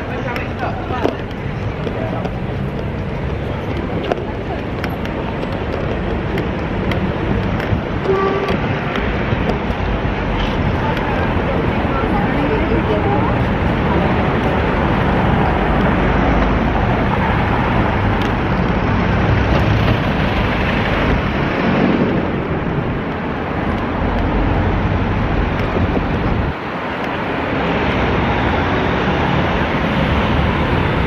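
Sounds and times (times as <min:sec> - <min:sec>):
road traffic: 0:00.0 - 0:31.0
wind rumbling on microphone: 0:00.0 - 0:31.0.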